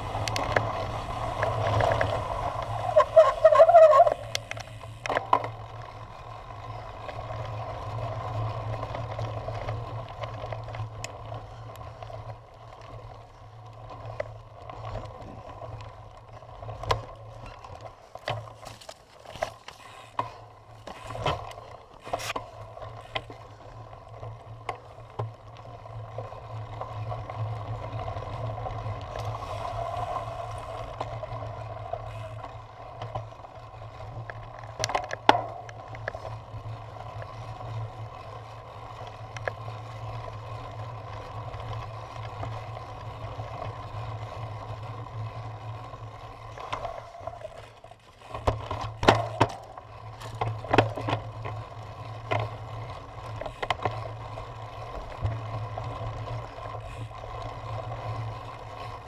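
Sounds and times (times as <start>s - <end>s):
bike rattling over bumps: 0.0s - 59.0s
wind and tyre noise: 0.0s - 59.0s.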